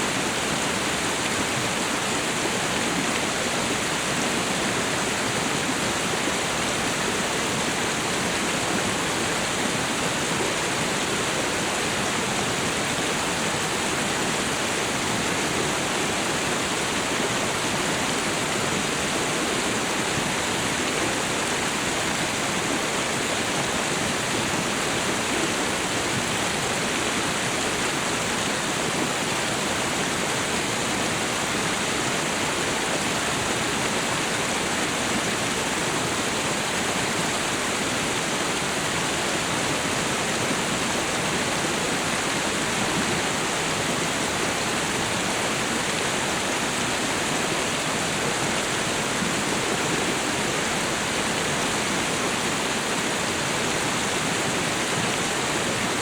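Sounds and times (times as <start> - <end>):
waterfall and river rushing: 0.0 - 56.0.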